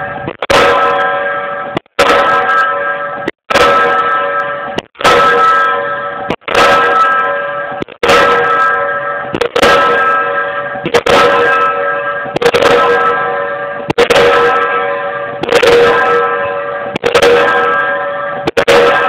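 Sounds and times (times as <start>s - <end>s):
pile hammer striking: 0.0s - 14.8s, 15.4s - 19.0s.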